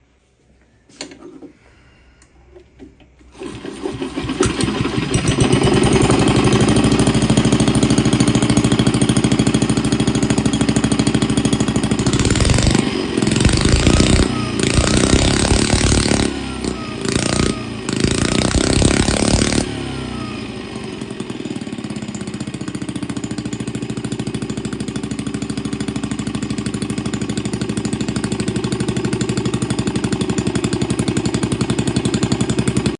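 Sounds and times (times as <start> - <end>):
model diesel engine running: 3.3 - 32.9.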